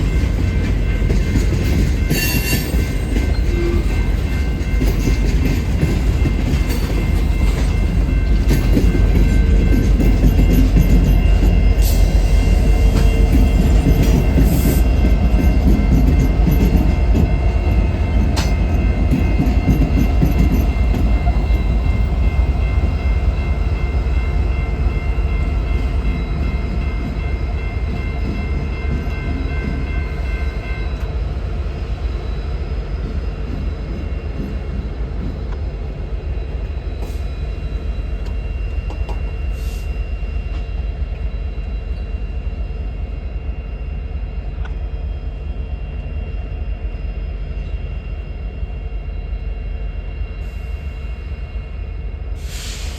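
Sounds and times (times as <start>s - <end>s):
steady high-pitched tones: 0.0s - 52.9s
train rumbling past: 0.0s - 52.9s.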